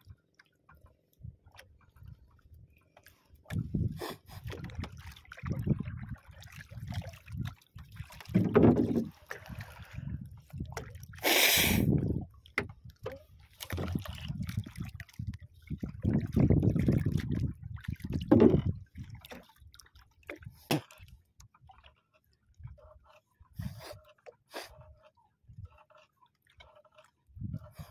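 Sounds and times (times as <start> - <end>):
water lapping against boat hull: 0.0 - 27.9.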